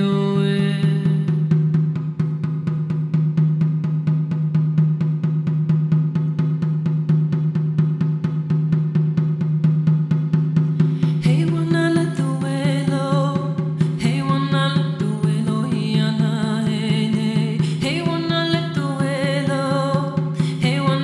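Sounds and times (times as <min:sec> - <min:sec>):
frame drum beaten with padded beater: 0:00.0 - 0:21.0.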